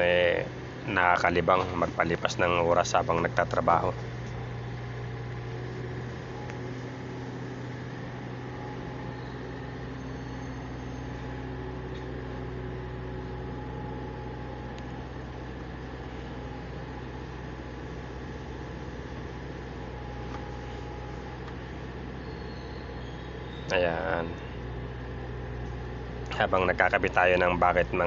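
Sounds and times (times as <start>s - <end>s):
excavator diesel engine hum: 0.0s - 28.0s.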